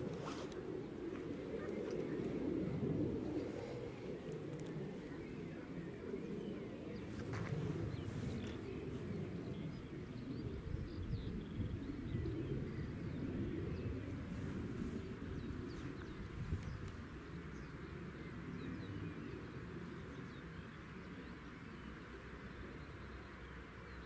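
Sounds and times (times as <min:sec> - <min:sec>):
low uneven outdoor noise: 0:00.0 - 0:24.0.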